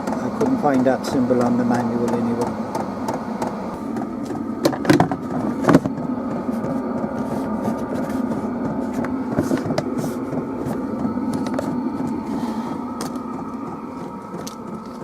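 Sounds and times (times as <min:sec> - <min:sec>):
diesel heater humming: 0:00.0 - 0:15.0.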